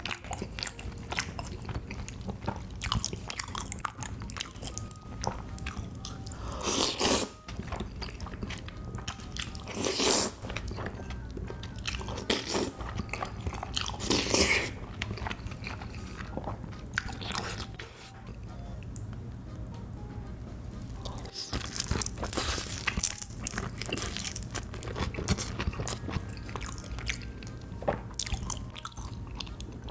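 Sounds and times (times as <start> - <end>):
wet chewing: 0.0 - 18.1, 21.0 - 29.9.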